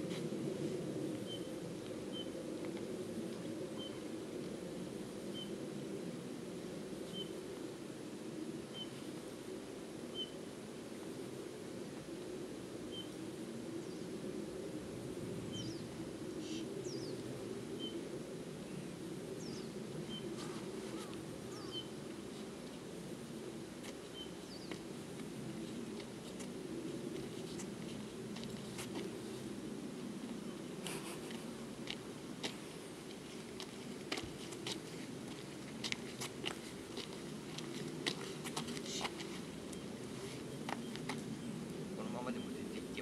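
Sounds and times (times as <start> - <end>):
steady low rumble: 0.0 - 43.0.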